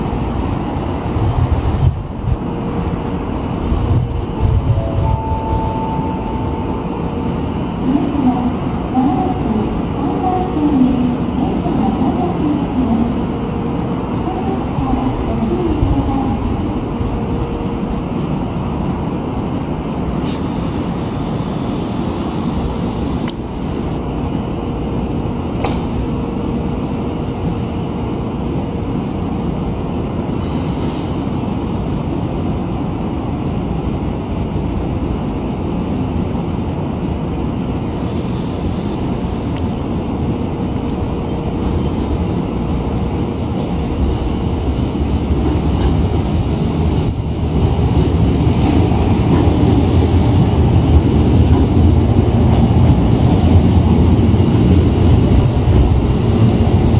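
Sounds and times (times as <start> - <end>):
electric train rumbling: 0.0 - 56.9.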